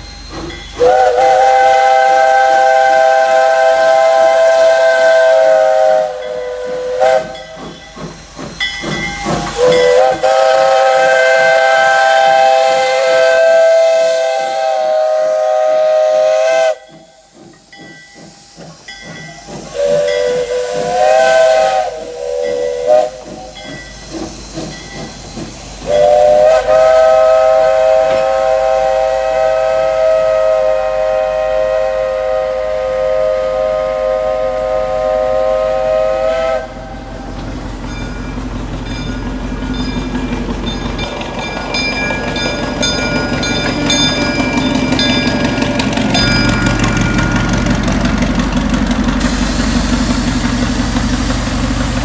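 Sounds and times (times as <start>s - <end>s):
steam locomotive whistle: 0.0s - 7.7s, 8.8s - 37.5s, 40.0s - 48.5s, 49.2s - 52.0s
steam hissing: 0.0s - 52.0s
train passing: 0.0s - 52.0s.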